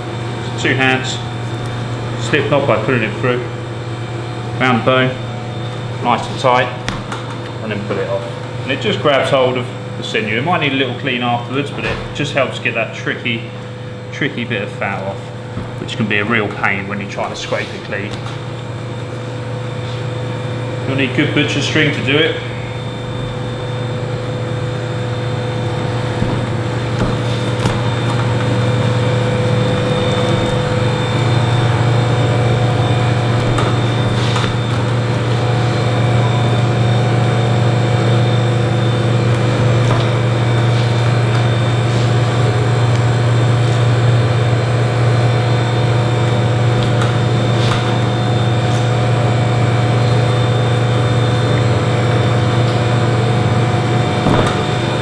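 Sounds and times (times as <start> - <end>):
kitchen equipment hum: 0.0 - 55.0.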